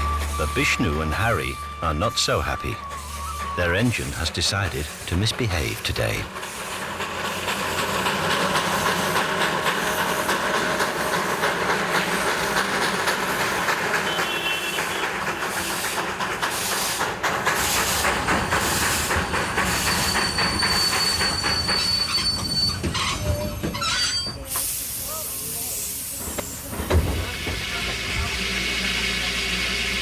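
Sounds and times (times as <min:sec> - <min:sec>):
high wheel squeal: 0:00.0 - 0:26.6
train wheels rattling: 0:00.0 - 0:30.0.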